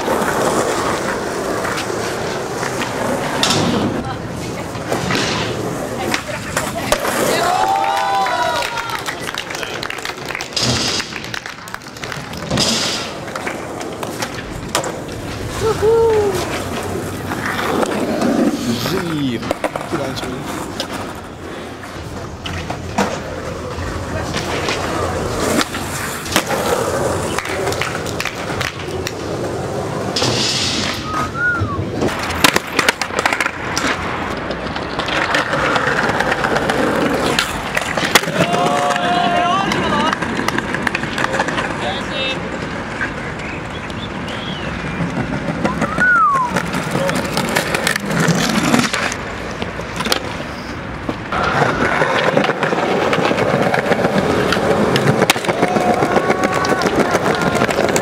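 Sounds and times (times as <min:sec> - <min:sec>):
skateboard clacks and knocks: 0:00.0 - 0:58.0
skateboard rolling on concrete: 0:00.0 - 0:58.0.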